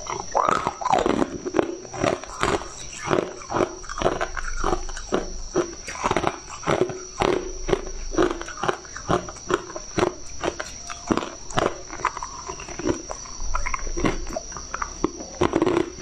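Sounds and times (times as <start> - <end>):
ice chunks being chewed: 0.0 - 16.0.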